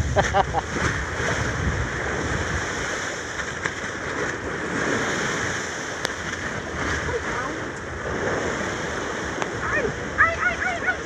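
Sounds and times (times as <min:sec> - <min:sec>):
waves sloshing around a boat: 0:00.0 - 0:11.0
wind on microphone: 0:00.0 - 0:11.0.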